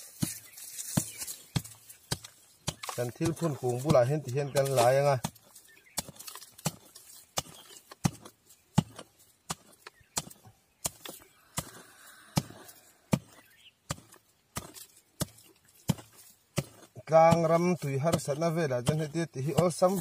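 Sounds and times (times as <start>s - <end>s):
hand tool chopping into dry soil: 0.0s - 20.0s.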